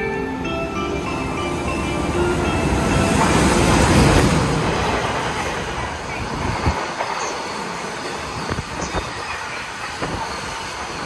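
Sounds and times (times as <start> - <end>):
freight train passing at speed: 0.0 - 11.0.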